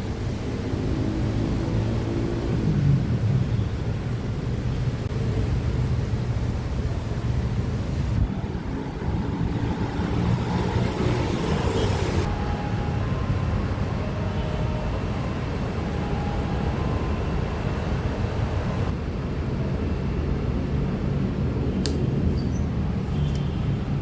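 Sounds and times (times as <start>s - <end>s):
vehicle rumbling in motion: 0.0s - 24.0s.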